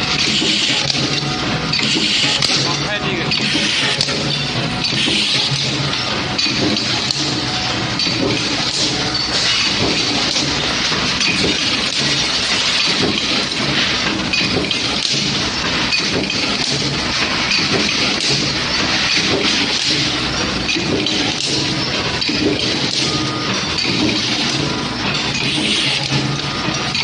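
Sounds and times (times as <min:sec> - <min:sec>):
forging press machinery din: 0:00.0 - 0:27.0
metal parts clattering: 0:00.0 - 0:27.0.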